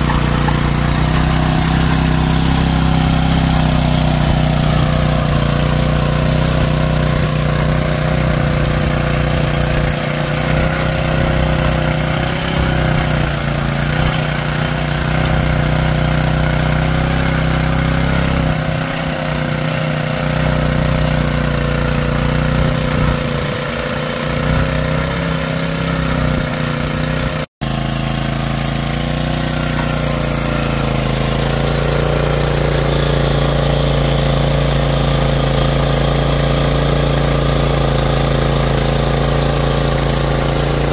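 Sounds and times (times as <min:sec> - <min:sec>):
small petrol engine running: 0:00.0 - 0:40.9
tines churning stony soil: 0:00.0 - 0:40.9.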